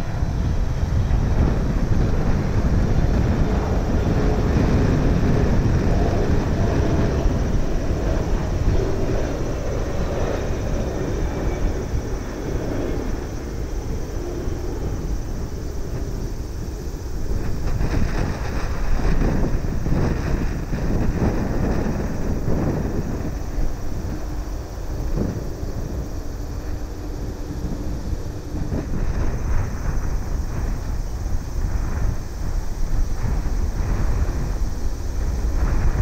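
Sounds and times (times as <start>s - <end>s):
jet engine whine: 0.0s - 36.0s
jet engines rumbling: 0.0s - 36.0s.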